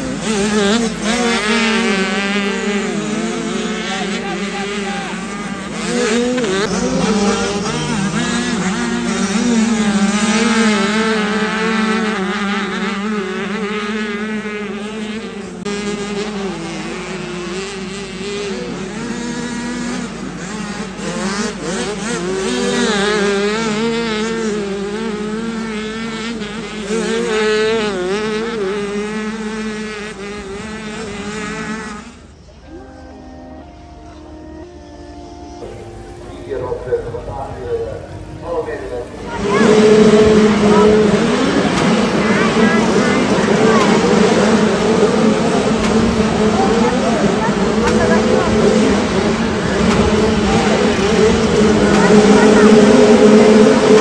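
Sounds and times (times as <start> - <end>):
motocross bikes revving past: 0.0 - 54.0.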